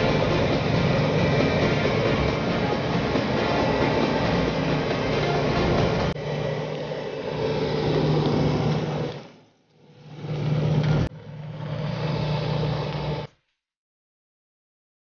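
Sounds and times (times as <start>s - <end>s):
machinery engine humming: 0.0s - 13.3s.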